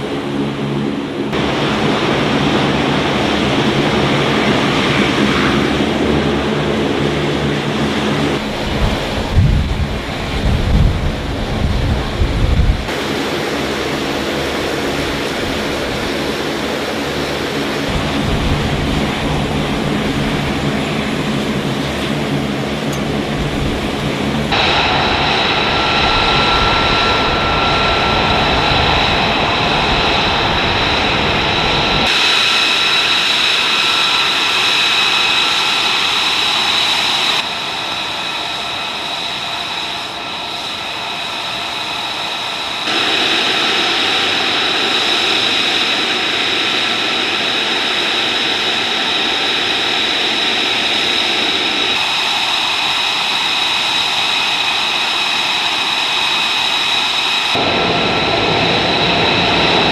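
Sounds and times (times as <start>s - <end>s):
deep droning engine: 0.0s - 56.0s
jet engine whine and rush: 0.0s - 59.9s.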